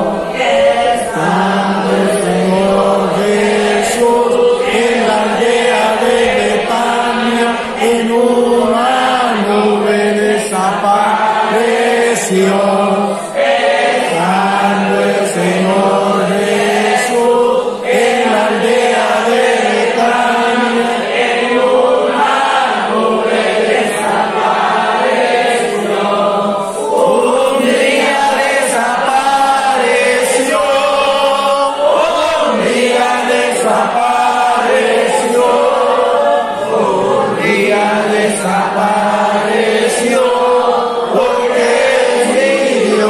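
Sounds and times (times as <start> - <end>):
group singing a hymn: 0.0 - 43.0.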